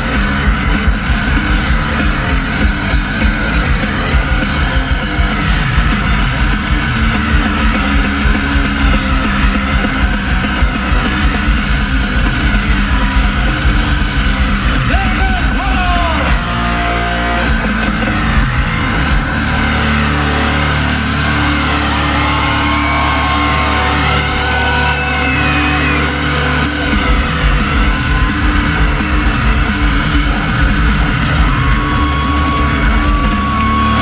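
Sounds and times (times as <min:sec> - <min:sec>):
bending lead melody: 0:00.0 - 0:34.0
live rock band playing: 0:00.0 - 0:34.0.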